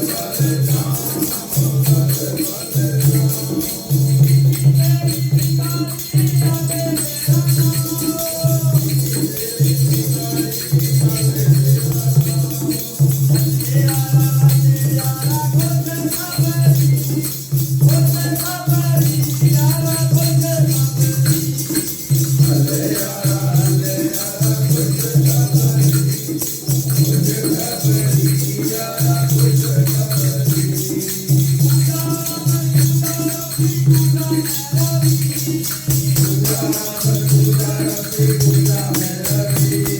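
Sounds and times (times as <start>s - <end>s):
jingling percussion: 0.0s - 39.9s.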